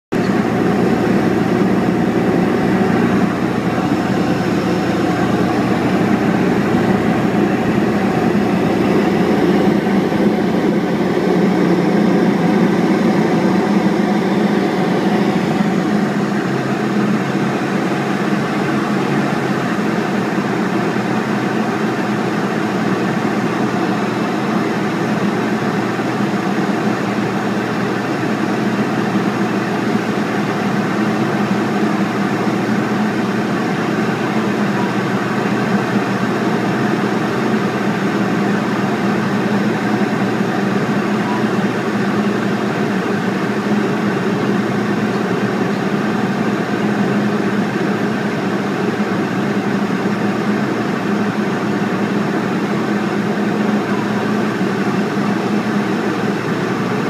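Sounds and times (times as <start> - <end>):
airplane engine droning in cockpit: 0.1 - 57.0.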